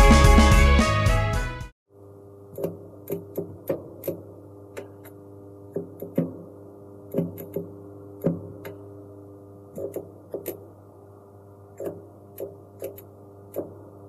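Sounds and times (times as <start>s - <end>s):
steady machine hum: 1.9s - 14.0s.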